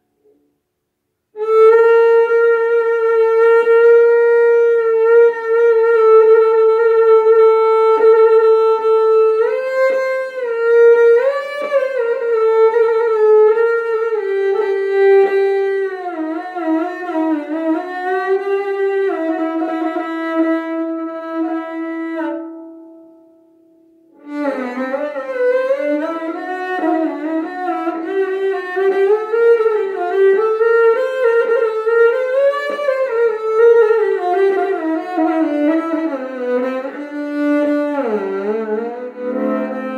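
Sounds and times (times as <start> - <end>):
solo bowed string melody: 1.3 - 39.9.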